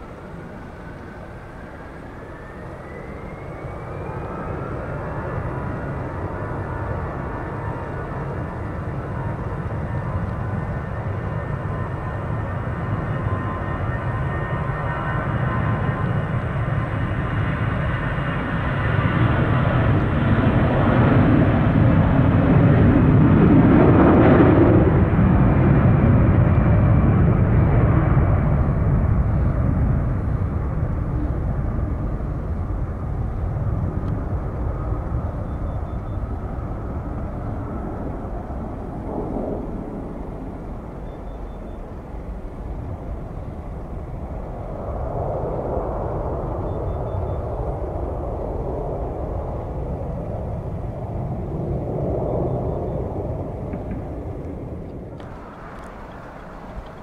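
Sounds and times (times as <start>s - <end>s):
jet airliner roar passing: 0.0s - 57.0s
jet engine whine: 0.0s - 57.0s.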